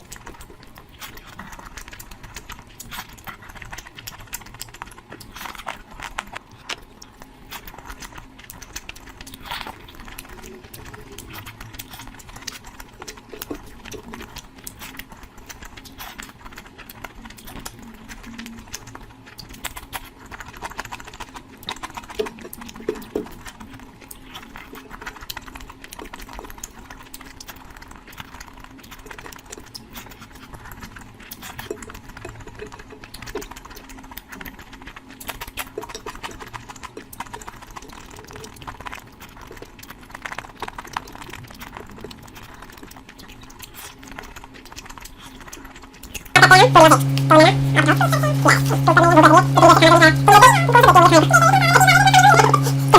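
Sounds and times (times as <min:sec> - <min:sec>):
wet chewing: 0:00.0 - 0:52.9.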